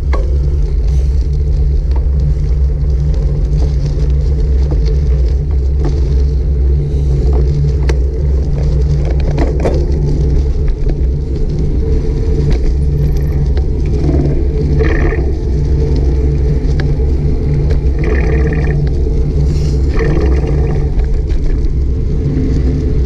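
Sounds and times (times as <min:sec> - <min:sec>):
wind and road noise rumble: 0:00.0 - 0:23.0.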